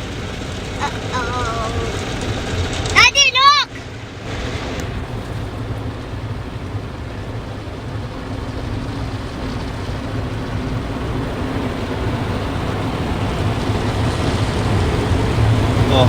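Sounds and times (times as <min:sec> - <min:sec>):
car wash rushing noise: 0:00.0 - 0:16.0
low machinery hum: 0:00.0 - 0:16.0.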